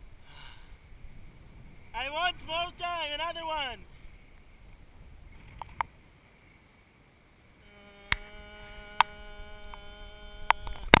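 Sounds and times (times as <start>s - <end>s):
steady buzzing hum: 0.0s - 11.0s.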